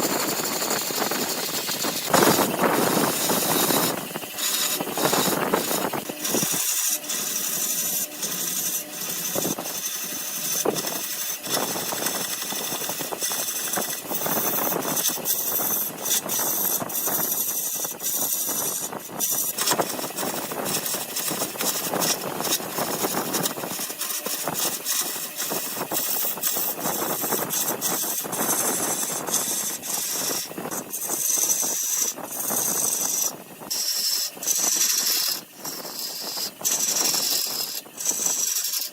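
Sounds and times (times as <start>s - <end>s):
tool scraping spinning wood: 0.0s - 38.9s
wood lathe whine: 0.0s - 38.9s.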